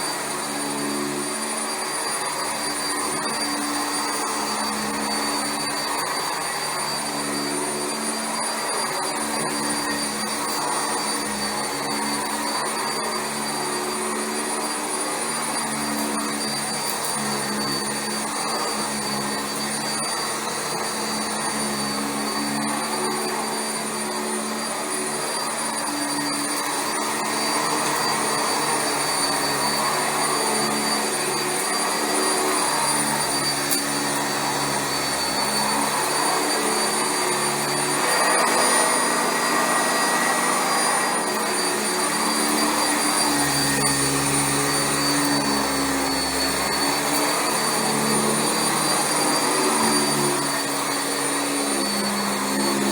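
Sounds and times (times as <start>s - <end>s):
upright vacuum cleaner running: 0.0s - 52.9s.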